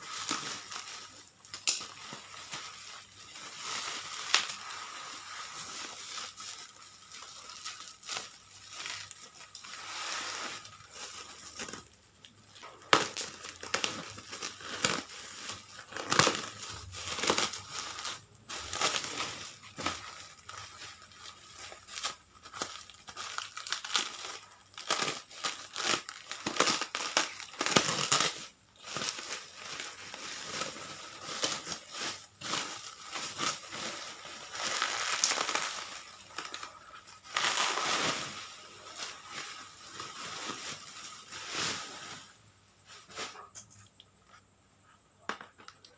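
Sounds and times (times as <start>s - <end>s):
packaging crinkling and tearing: 0.0s - 42.3s.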